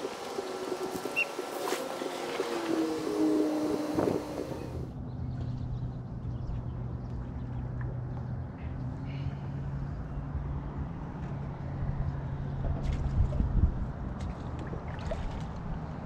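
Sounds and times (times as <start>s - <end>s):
wind rumble on microphone: 0.0s - 8.8s, 9.4s - 16.0s.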